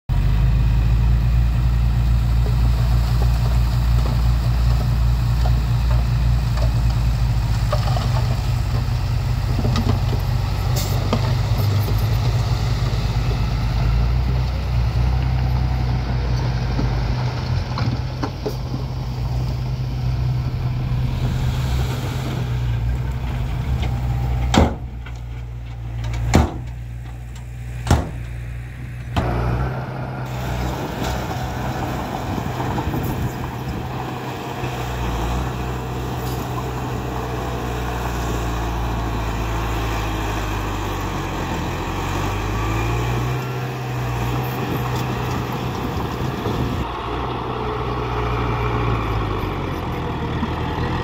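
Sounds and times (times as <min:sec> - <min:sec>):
diesel truck engine running: 0:00.1 - 0:51.0
soil and rock sliding: 0:01.1 - 0:46.9.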